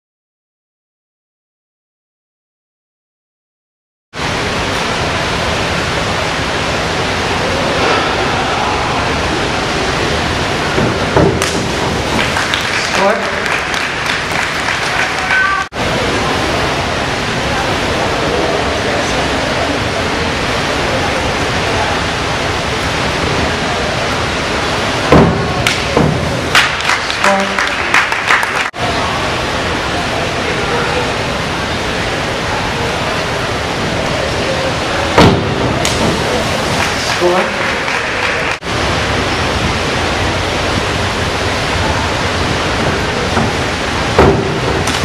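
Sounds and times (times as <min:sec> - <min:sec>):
indoor pool hall hiss: 0:04.2 - 0:45.0.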